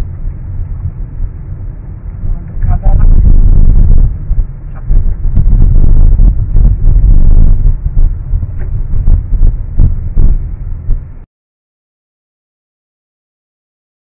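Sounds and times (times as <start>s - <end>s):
road and wind noise inside car: 0.0s - 11.3s.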